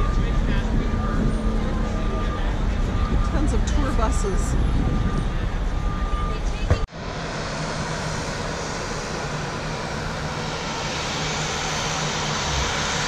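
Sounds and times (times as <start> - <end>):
propeller engine running: 0.0 - 13.0.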